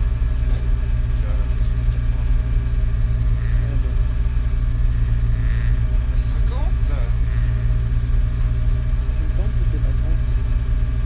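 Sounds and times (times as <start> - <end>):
car engine idling inside cabin: 0.0 - 11.0.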